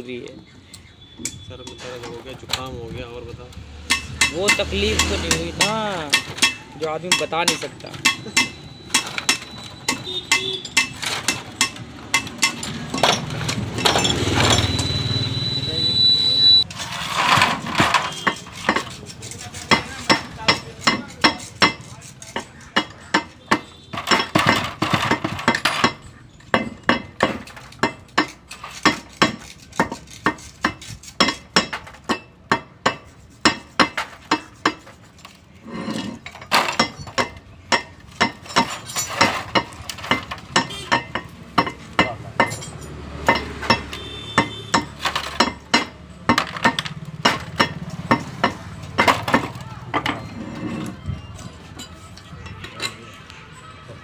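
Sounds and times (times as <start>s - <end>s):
metal parts clinking: 3.9s - 15.1s, 16.6s - 32.2s, 33.0s - 53.2s.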